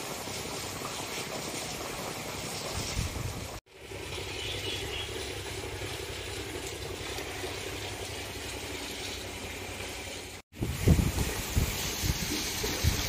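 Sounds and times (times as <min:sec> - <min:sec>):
outdoor hum: 0:00.1 - 0:13.0.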